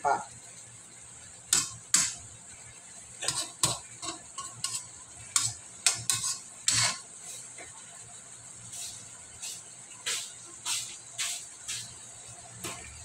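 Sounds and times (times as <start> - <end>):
sauce sizzling in wok: 0.0 - 13.0.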